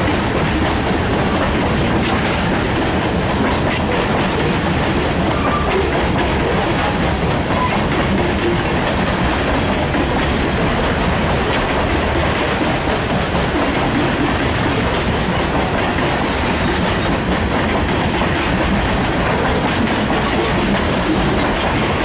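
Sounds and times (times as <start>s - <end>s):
train wheels running over rails: 0.0s - 22.0s.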